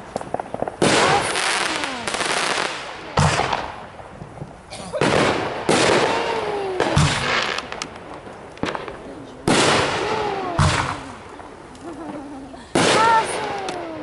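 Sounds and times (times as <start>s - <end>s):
firework booms: 0.0s - 11.7s, 12.7s - 14.0s
firework crackling: 0.0s - 14.0s.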